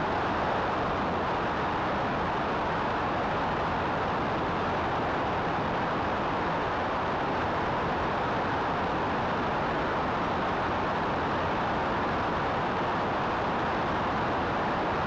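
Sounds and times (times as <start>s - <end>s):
wind and aircraft engine roar: 0.0s - 15.0s.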